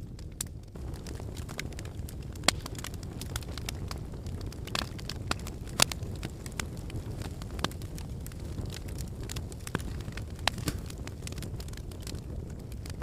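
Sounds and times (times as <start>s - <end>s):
sharp fire pops: 0.0s - 13.0s
wood fire crackling: 0.0s - 13.0s.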